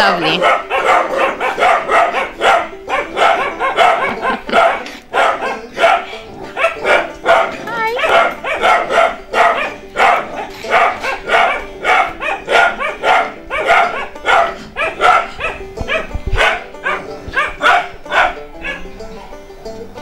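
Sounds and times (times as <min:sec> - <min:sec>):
puppy yapping: 0:00.3 - 0:18.9.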